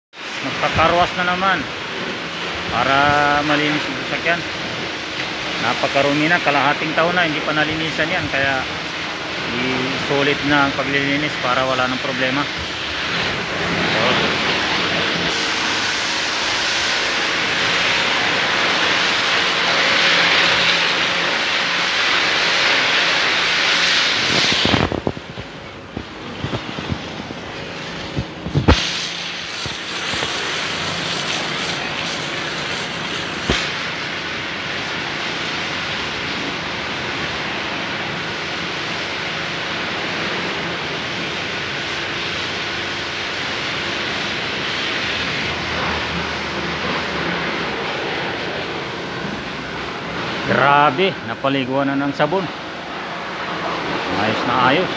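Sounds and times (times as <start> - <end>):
foam sprayer hissing: 0.2 - 54.9
machine hum: 0.2 - 54.9.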